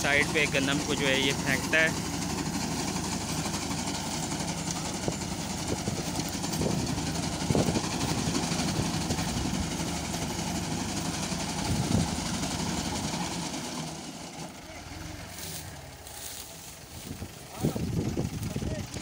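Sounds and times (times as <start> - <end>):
reaper cutter bar running: 0.0 - 16.0
tractor diesel engine under load: 0.0 - 19.0.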